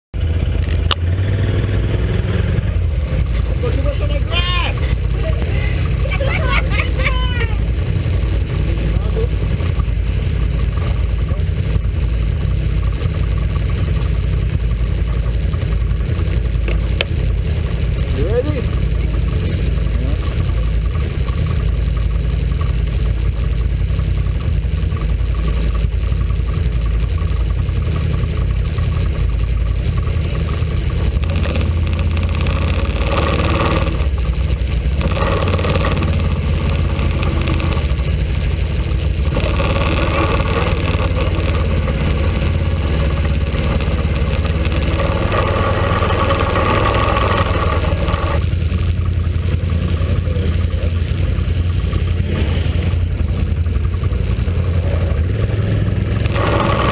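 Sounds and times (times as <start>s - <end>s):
atv engine running: 0.1s - 56.9s.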